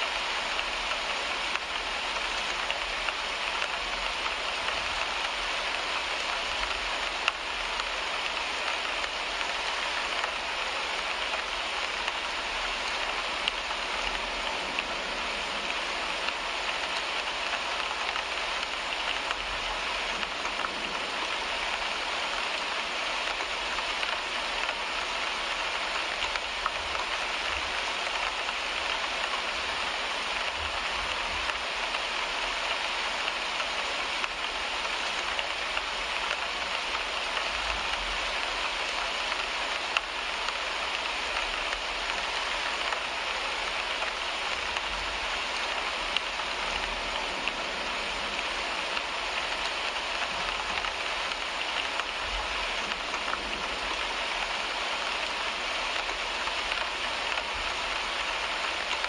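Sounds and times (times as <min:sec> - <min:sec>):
rain on a car windshield: 0:00.0 - 0:59.0.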